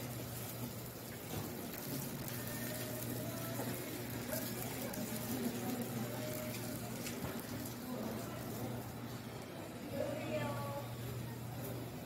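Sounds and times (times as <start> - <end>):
background hum and hiss: 0.0 - 12.0
faint indistinct voices: 1.8 - 12.0.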